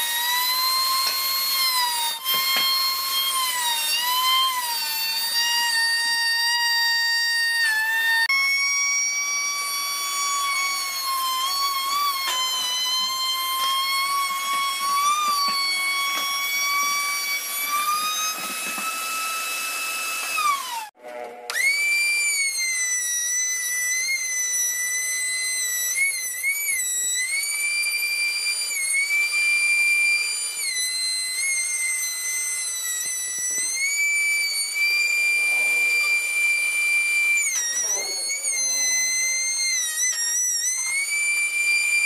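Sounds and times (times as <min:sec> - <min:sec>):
electric router motor whining: 0:00.0 - 0:42.0.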